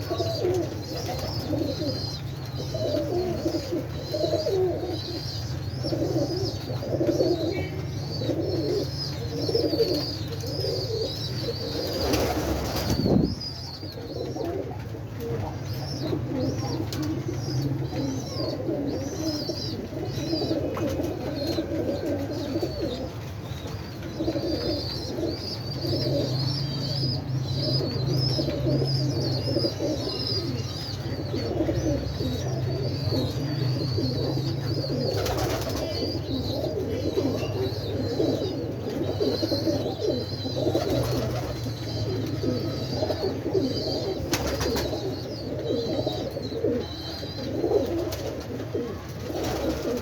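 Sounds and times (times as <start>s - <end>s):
pigeons cooing: 0.0s - 50.0s
small birds chirping: 0.0s - 50.0s.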